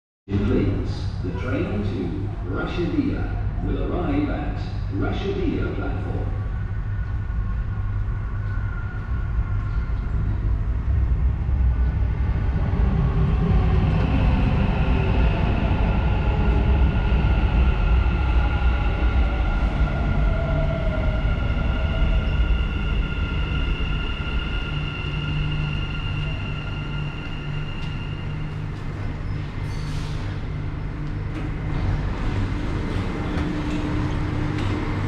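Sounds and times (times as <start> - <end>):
train rumble: 0.3 - 35.0.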